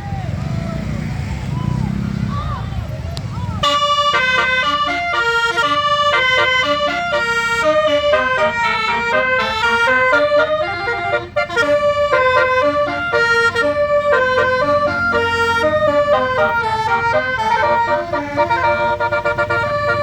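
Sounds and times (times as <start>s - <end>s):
bus musical horn melody: 3.6s - 20.0s.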